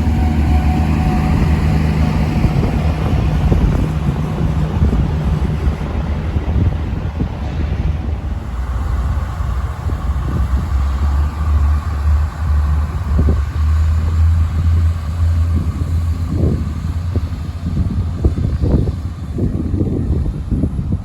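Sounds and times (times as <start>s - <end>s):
train rumbling past: 0.0s - 21.0s
wind buffeting microphone: 0.0s - 21.0s.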